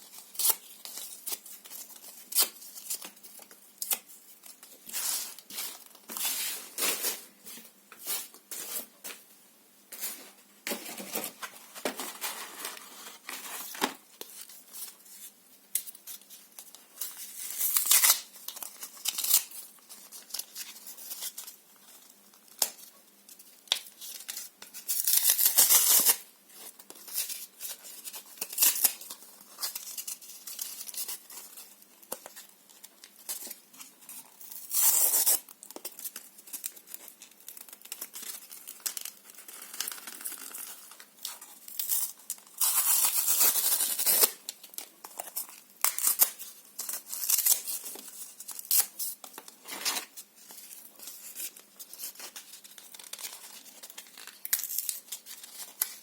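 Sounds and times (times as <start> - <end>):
paper crinkling: 9.9 - 56.0.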